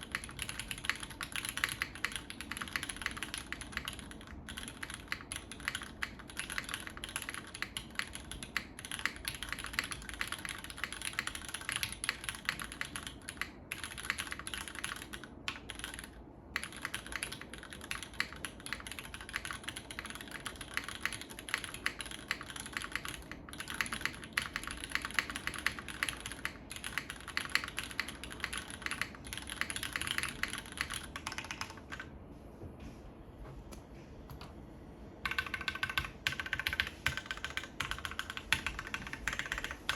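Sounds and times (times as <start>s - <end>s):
typing on mechanical keyboard: 0.0s - 32.1s, 35.2s - 39.9s.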